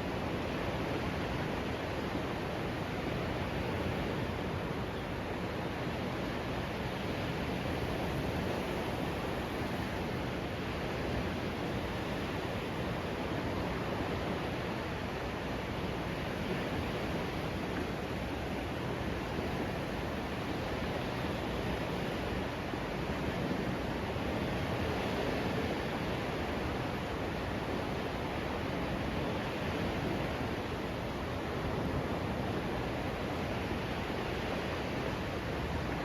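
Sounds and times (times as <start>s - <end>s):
sea surf rushing on beach: 0.0s - 36.0s.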